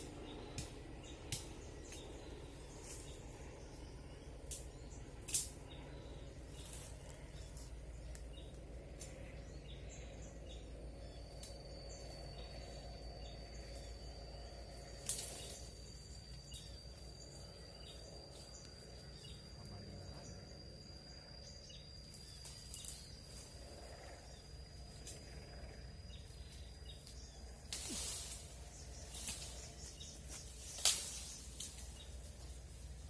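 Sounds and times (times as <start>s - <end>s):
faint bird chirps: 0.0s - 32.7s
insect high-pitched drone: 0.0s - 33.0s.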